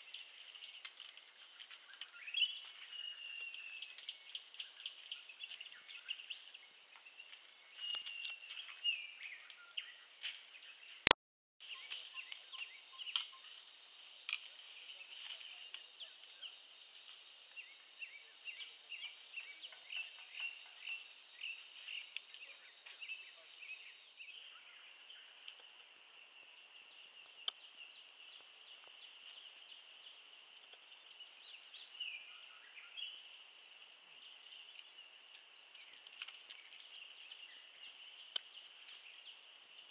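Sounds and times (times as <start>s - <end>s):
birds and insects chirping: 0.0s - 39.9s.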